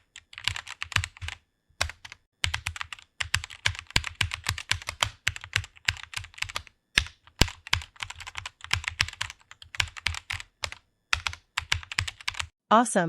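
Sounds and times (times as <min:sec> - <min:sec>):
typing on computer keyboard: 0:00.0 - 0:12.5.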